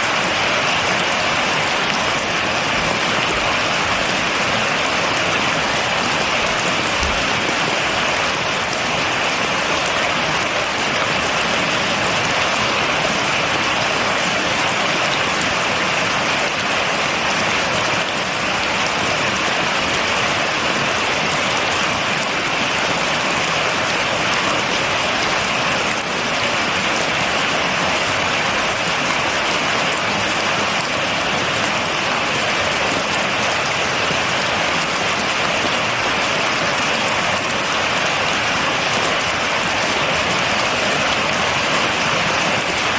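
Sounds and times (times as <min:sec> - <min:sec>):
heavy rain pattering: 0:00.0 - 0:42.9.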